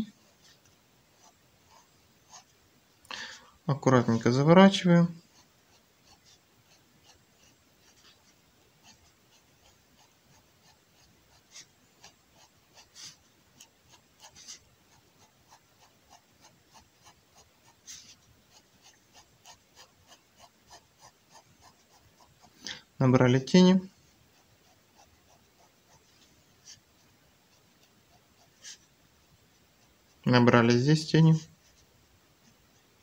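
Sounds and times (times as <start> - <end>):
pen scratching on paper: 0.2 - 2.6, 5.1 - 33.0.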